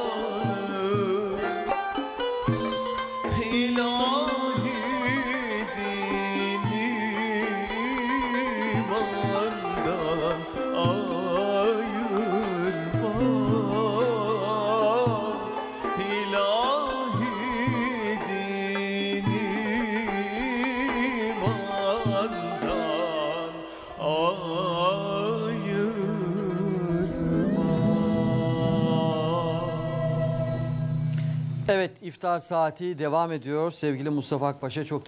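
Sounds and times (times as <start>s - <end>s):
man singing a hymn: 0.0s - 1.7s, 3.3s - 30.3s
instrumental accompaniment: 0.0s - 32.0s.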